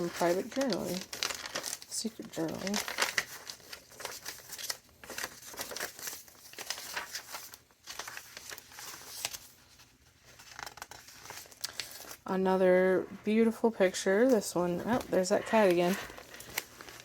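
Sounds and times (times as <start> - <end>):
paper pages rustling: 0.0 - 12.5, 13.1 - 17.0.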